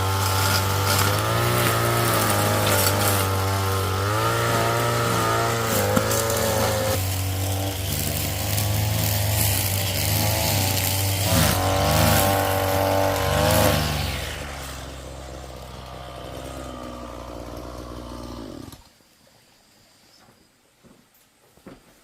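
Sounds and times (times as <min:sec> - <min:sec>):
small engine running: 0:00.0 - 0:18.8.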